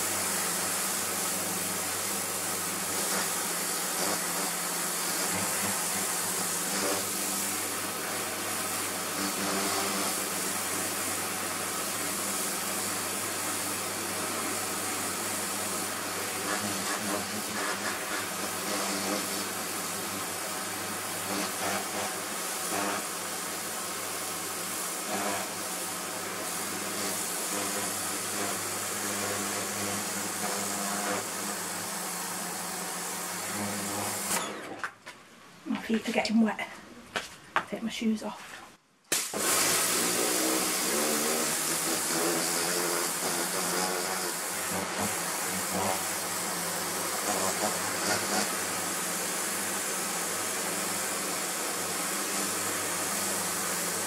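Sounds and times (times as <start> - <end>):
water jet hissing on plastic: 0.0 - 34.4, 39.1 - 54.0
pressure washer pump humming: 0.0 - 34.8, 39.1 - 54.0.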